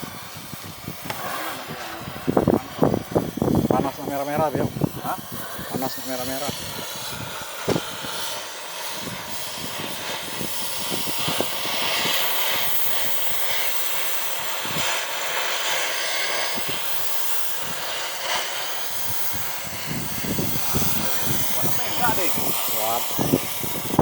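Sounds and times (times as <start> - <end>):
gas torch flame hissing: 0.0 - 24.0.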